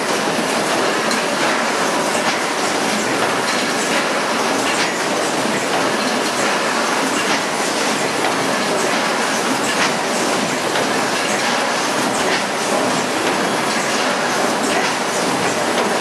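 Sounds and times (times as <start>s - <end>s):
production line mechanical clatter: 0.0s - 16.0s.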